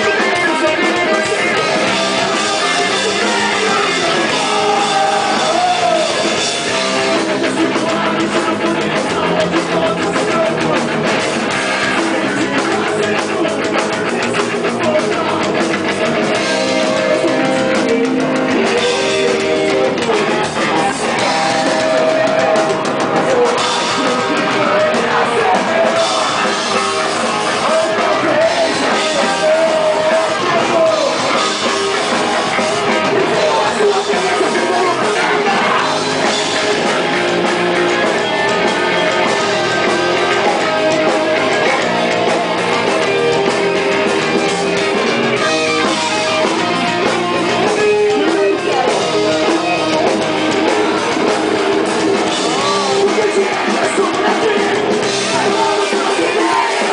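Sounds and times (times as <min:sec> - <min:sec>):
drum kit: 0:00.0 - 0:56.9
electric guitars: 0:00.0 - 0:56.9
person singing: 0:00.0 - 0:56.9.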